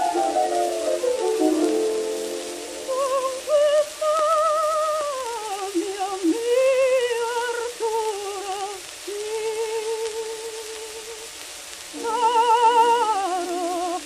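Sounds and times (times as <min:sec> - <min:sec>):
record surface crackle: 0:00.0 - 0:14.0
soprano singing with vibrato: 0:00.0 - 0:14.0.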